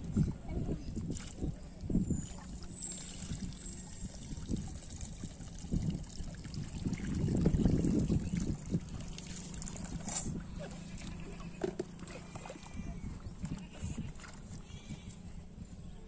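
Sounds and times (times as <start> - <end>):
water sloshing and trickling: 0.0 - 15.2.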